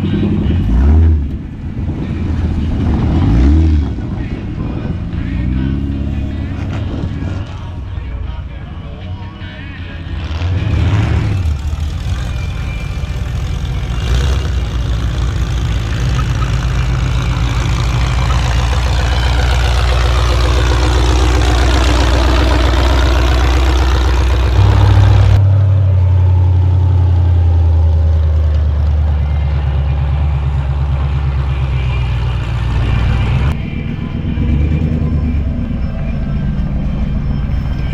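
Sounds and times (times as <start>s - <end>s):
car engine idling loudly: 0.0s - 37.9s.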